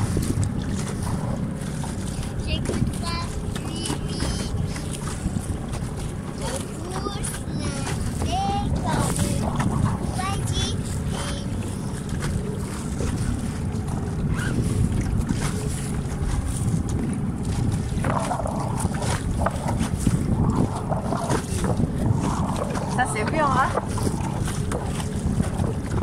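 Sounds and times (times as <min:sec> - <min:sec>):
water splashing against hull: 0:00.0 - 0:26.0
wind buffeting microphone: 0:00.0 - 0:26.0.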